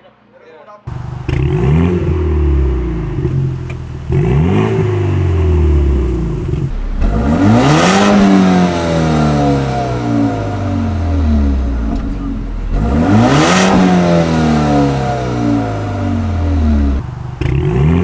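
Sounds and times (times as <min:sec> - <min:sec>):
car engine idling: 0:00.9 - 0:18.0
car engine revving: 0:00.9 - 0:18.0.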